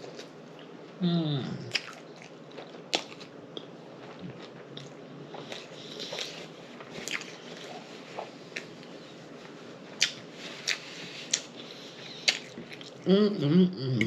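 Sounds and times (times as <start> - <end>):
person chewing food: 1.7 - 13.0.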